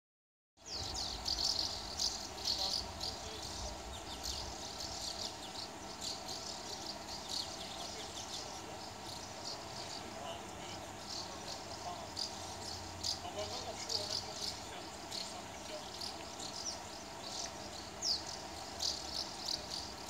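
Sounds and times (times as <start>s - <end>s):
flock of birds calling shrilly: 0.6s - 20.0s.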